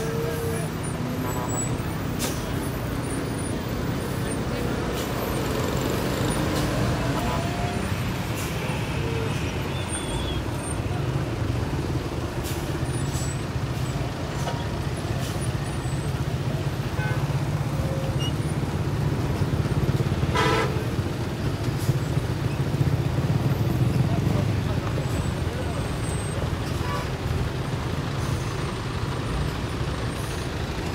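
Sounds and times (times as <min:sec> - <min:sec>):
diesel coach engines rumbling: 0:00.0 - 0:30.9.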